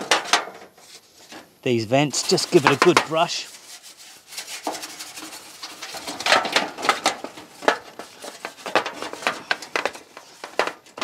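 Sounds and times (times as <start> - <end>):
brush scrubbing sheet metal: 0.0 - 10.7.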